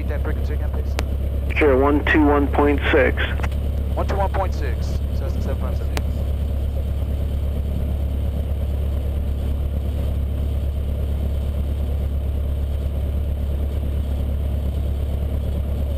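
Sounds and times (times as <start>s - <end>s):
airplane engine and propeller droning: 0.0s - 15.9s.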